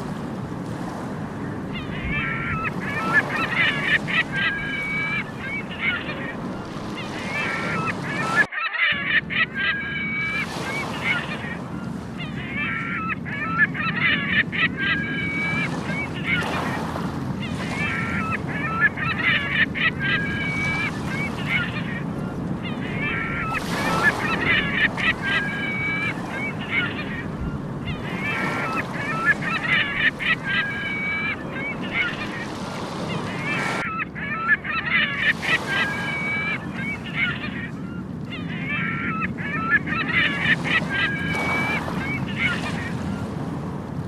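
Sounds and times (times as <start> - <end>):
surf on a beach: 0.0 - 44.0
seagulls calling: 0.6 - 44.0.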